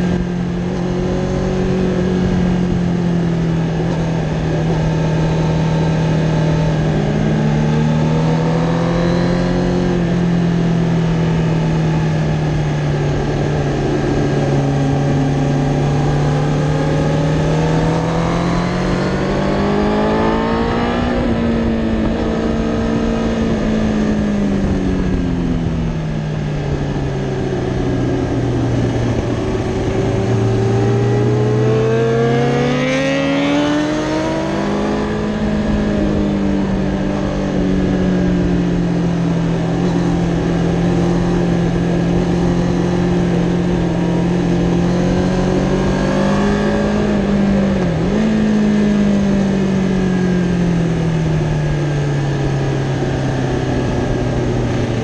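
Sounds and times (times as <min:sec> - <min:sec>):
motorcycle engine revving: 0:00.0 - 0:55.0
wind noise: 0:00.0 - 0:55.0.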